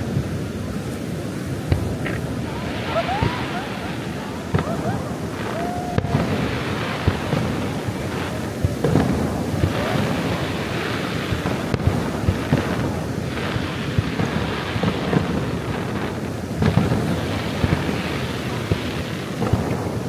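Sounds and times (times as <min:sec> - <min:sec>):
fireworks bursting: 0:00.0 - 0:20.0
fireworks crackle: 0:00.0 - 0:20.0.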